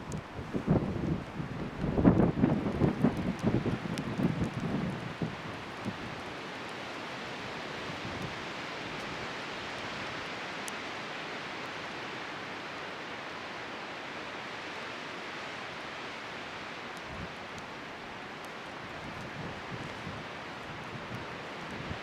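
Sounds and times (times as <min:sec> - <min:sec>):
fire crackles: 0:00.0 - 0:22.0.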